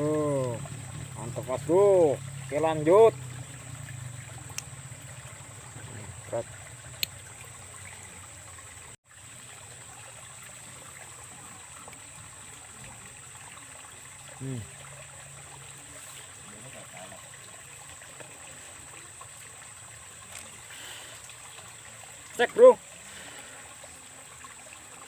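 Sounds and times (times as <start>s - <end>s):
water trickling in a ditch: 0.0s - 25.0s.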